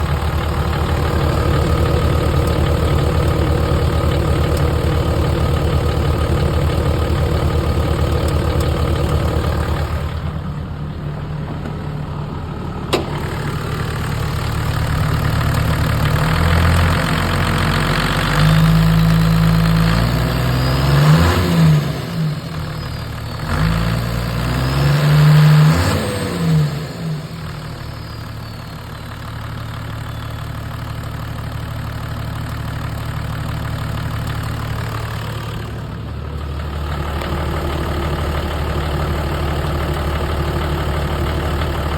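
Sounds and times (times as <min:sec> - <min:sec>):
diesel engine idling and revving: 0:00.0 - 0:41.9
engine clicking noise: 0:00.0 - 0:41.9.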